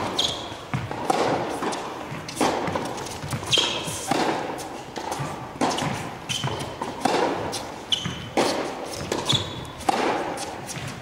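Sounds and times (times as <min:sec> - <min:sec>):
racket striking tennis ball: 0:00.0 - 0:11.0
shoes squeaking on court: 0:00.0 - 0:11.0
tennis ball bouncing: 0:00.0 - 0:11.0.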